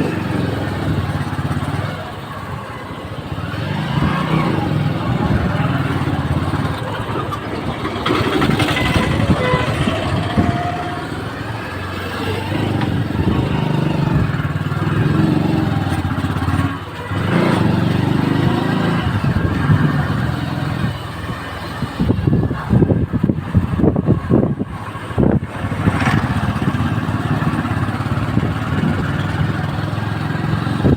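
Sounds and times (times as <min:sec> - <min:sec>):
traffic noise: 0:00.0 - 0:30.9
vehicle rumble on road: 0:00.0 - 0:30.9.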